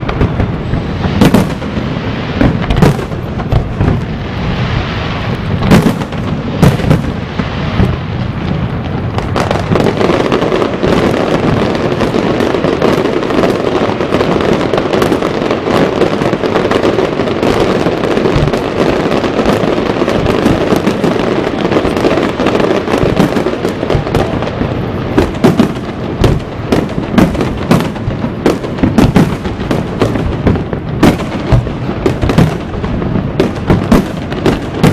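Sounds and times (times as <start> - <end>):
fireworks bangs: 0.0 - 34.9
fireworks crackling and rumbling: 0.0 - 34.9.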